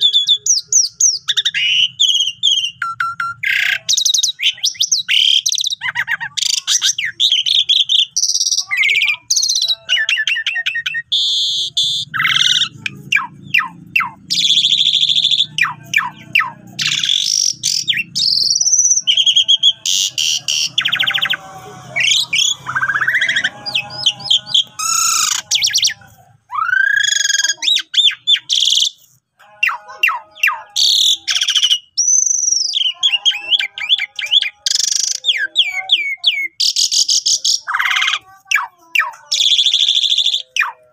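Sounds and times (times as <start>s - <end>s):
starling singing whistles and chatter: 0.0s - 40.9s.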